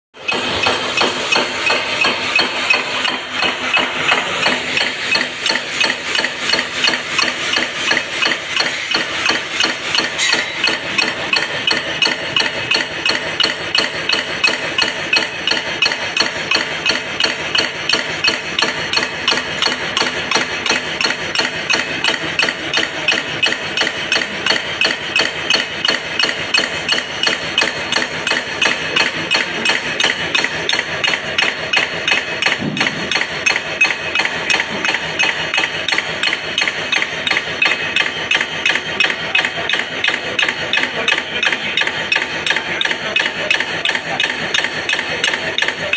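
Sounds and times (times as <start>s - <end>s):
rhythmic knocking: 0.2s - 45.9s.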